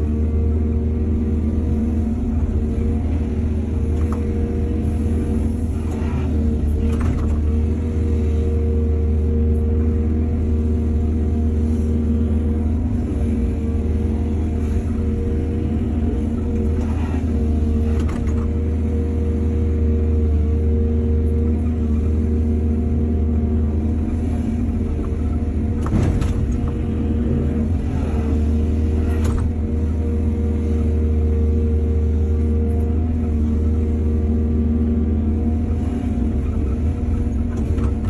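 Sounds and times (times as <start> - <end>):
excavator diesel engine under load: 0.0 - 38.0.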